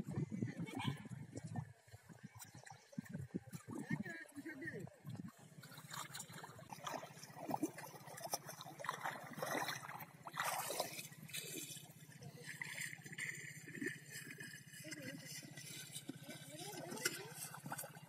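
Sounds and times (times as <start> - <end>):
muddy water splashing: 0.0 - 18.0.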